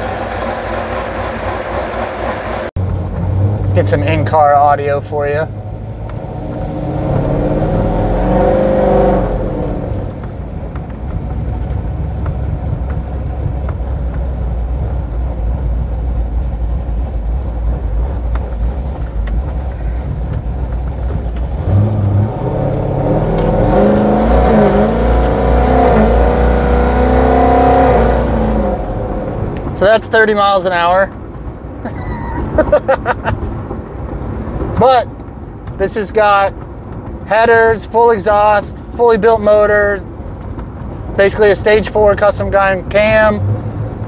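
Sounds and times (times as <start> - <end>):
car exhaust rumbling: 0.0 - 44.0.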